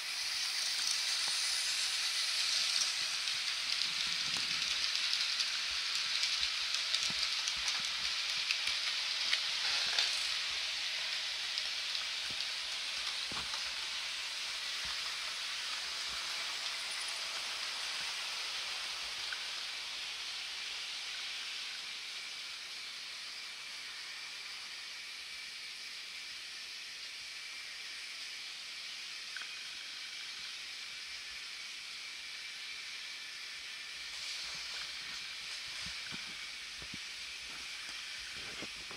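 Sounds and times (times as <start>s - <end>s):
model train wheels rolling on rails: 0.0s - 38.9s.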